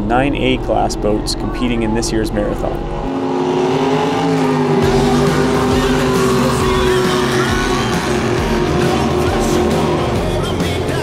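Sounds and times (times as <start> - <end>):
background music: 0.0 - 11.0
jet boat engines accelerating: 0.0 - 11.0.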